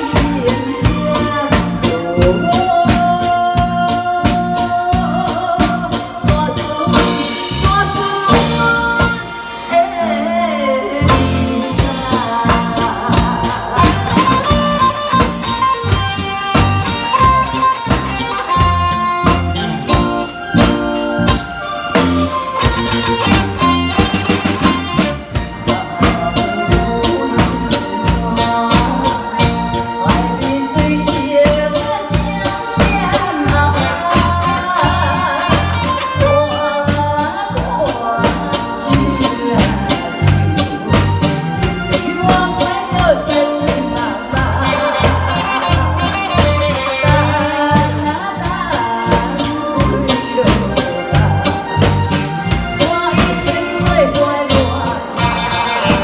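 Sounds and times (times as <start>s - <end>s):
woman singing into a microphone: 0.0s - 24.7s, 25.3s - 56.0s
live band playing a steady beat: 0.0s - 56.0s.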